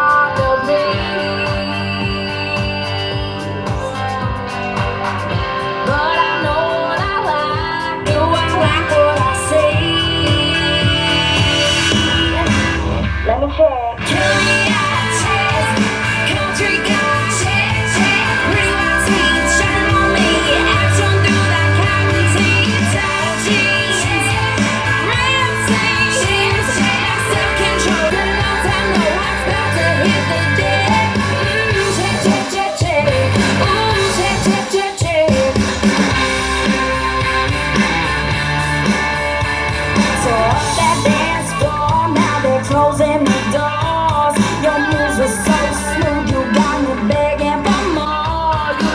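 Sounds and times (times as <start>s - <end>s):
rock song through speaker: 0.0s - 48.9s.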